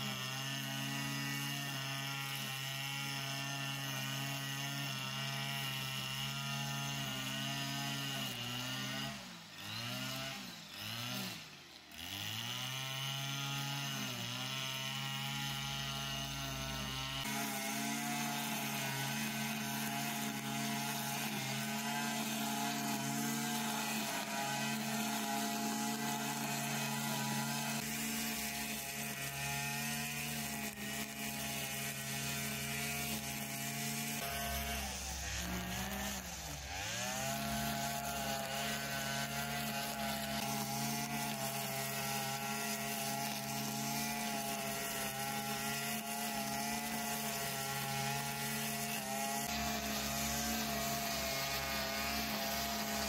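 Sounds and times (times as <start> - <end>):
brush cutter cutting grass: 0.0 - 53.0.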